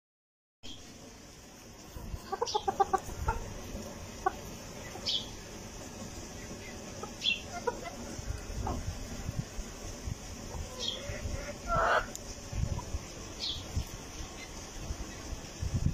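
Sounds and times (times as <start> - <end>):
chickens clucking: 1.4 - 15.6.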